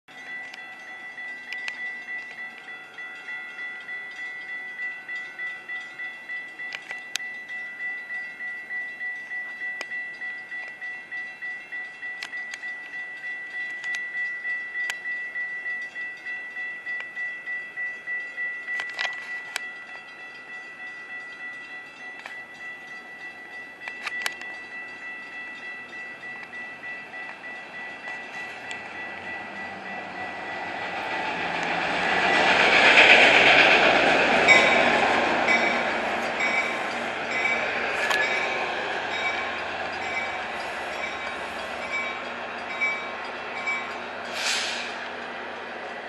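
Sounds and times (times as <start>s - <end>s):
railroad crossing bell ringing: 0.1s - 46.0s.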